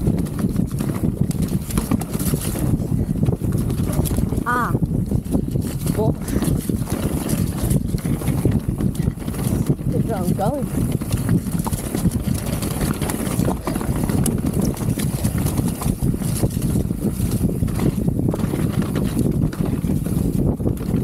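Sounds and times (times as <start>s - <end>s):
mountain bike rattling downhill: 0.0s - 21.0s
tyre noise on mud and stone: 0.0s - 21.0s.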